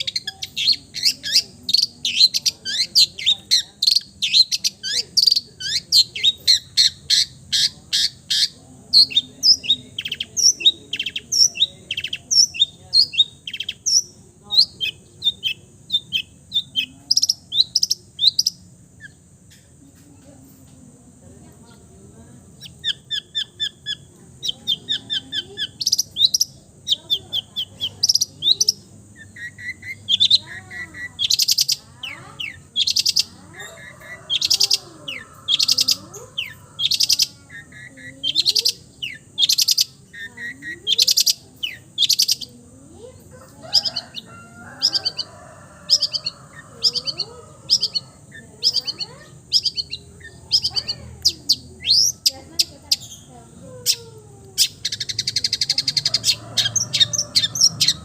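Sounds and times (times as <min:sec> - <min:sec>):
bird singing varied song: 0:00.0 - 0:58.0.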